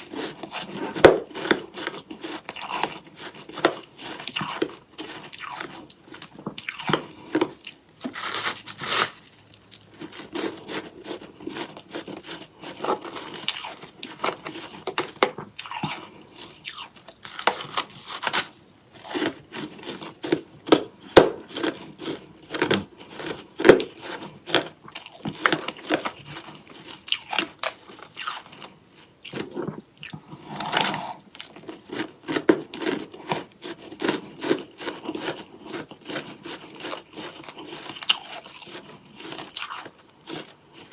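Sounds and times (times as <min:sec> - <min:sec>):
crunchy chewing of frost: 0:00.0 - 0:40.9.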